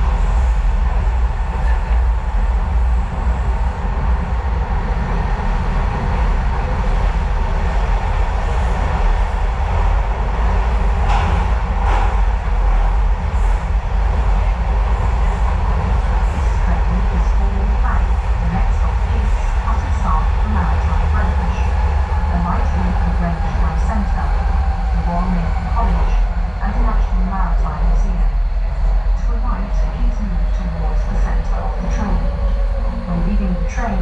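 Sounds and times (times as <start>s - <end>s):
train clacks: 0.0s - 34.0s
train rumbling inside carriage: 0.0s - 34.0s.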